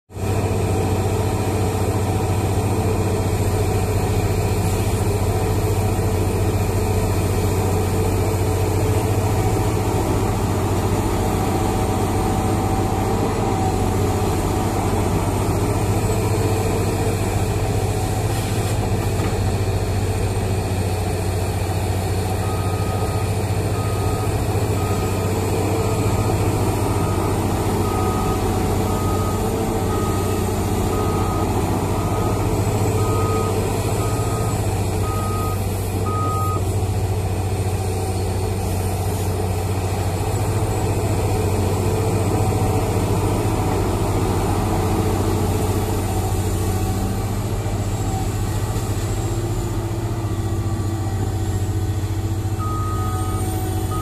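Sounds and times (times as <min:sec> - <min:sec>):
excavator diesel engine running: 0:00.1 - 0:54.0.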